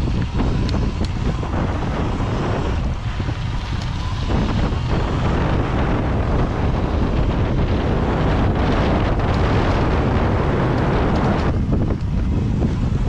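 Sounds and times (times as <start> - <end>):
tyres rumbling on loose dirt: 0.0 - 13.0
wind buffeting microphone: 0.0 - 13.0.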